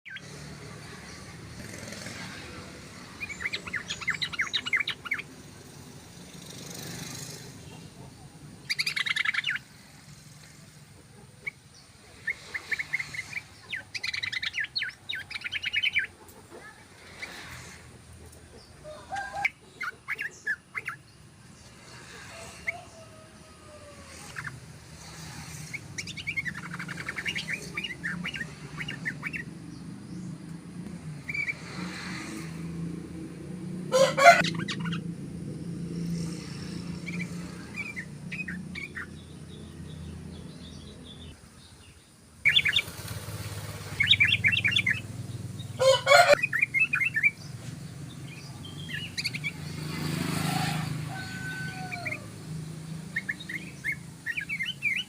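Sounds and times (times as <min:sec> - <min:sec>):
bird chattering song: 0:00.1 - 0:23.0, 0:24.1 - 0:32.6, 0:34.0 - 0:43.0, 0:43.9 - 0:50.1, 0:51.8 - 0:55.0.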